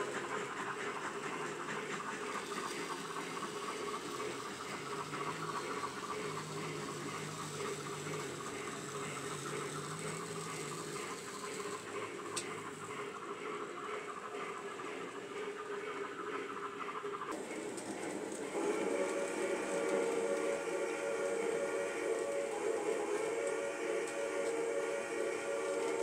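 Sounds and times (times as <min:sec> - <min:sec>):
model train motors whirring: 0:00.0 - 0:26.0.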